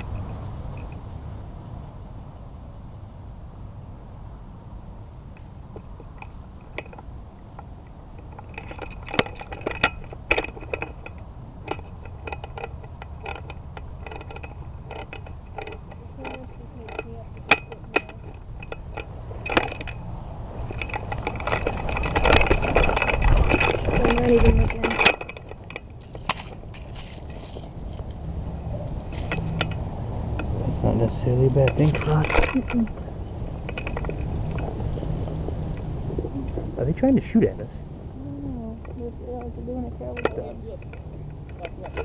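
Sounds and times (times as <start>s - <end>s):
sharp clicks and light rattling: 5.4s - 36.0s, 38.6s - 42.0s.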